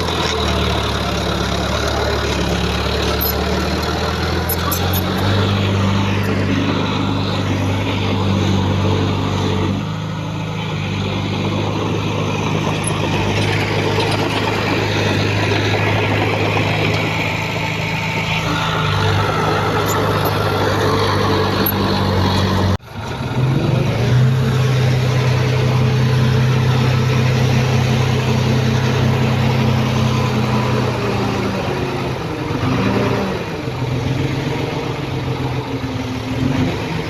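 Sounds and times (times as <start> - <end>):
heavy diesel machinery running: 0.0 - 37.0.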